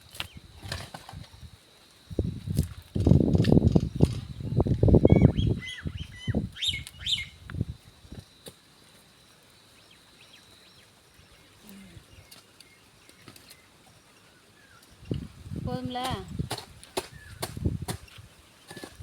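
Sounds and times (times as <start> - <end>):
small birds chirping: 2.2 - 19.0.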